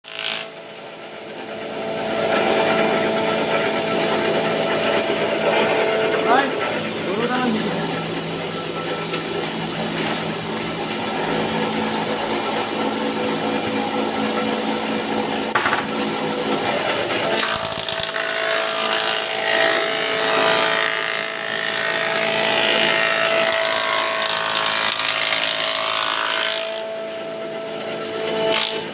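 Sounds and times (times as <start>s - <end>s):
wood planer running: 0.0s - 28.9s.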